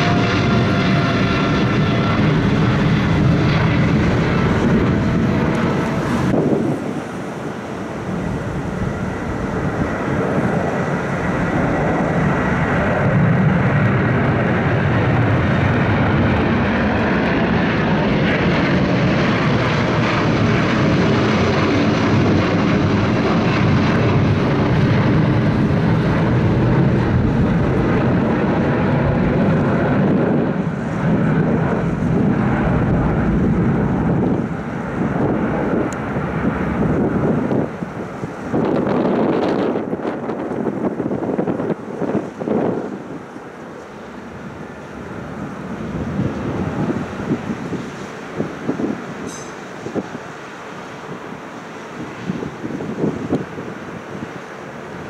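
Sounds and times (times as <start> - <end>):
faint jet engine whine: 0.0 - 55.0
jet engines roaring: 0.0 - 55.0.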